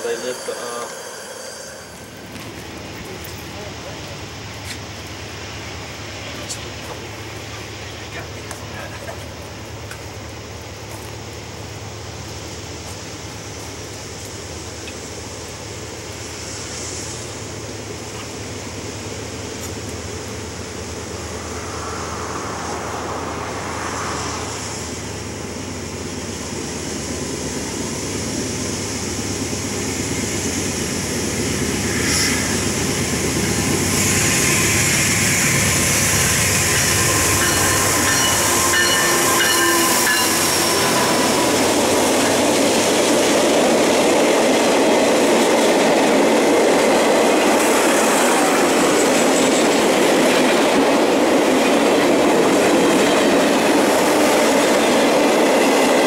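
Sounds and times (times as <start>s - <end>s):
diesel locomotive engine: 0.0s - 56.0s
train cars rolling on rails: 0.0s - 56.0s.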